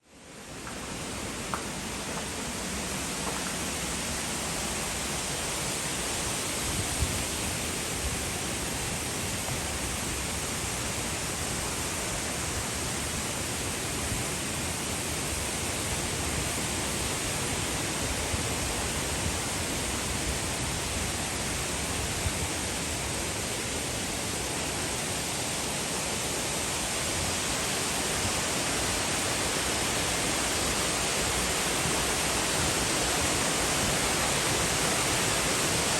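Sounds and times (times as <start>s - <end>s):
waterfall rushing: 0.3s - 35.9s.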